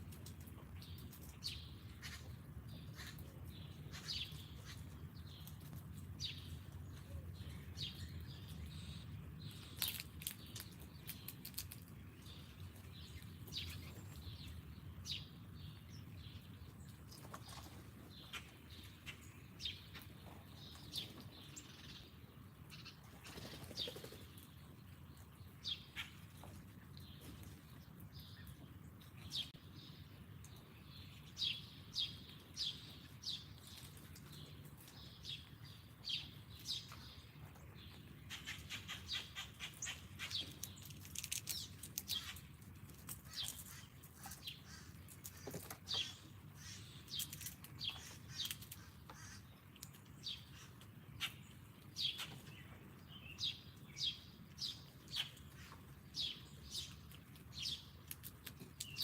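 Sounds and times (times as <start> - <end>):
low steady hum: 0.0 - 59.0
songbirds chirping: 0.0 - 59.0.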